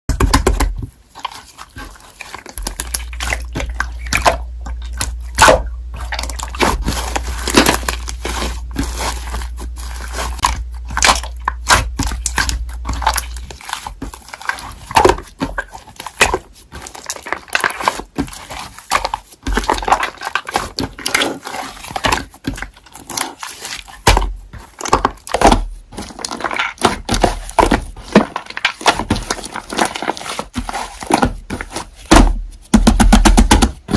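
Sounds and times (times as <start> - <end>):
slime squished by hand: 0.4 - 33.9.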